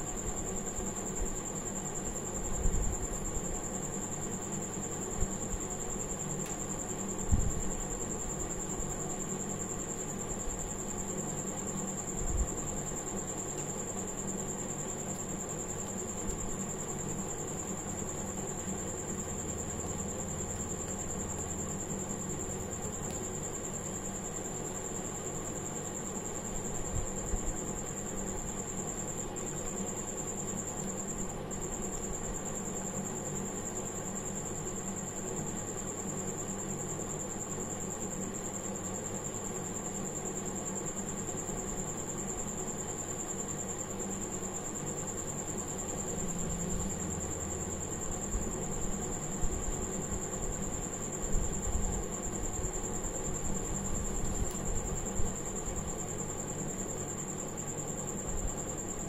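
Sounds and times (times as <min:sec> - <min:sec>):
background hum and hiss: 0:00.0 - 0:59.0.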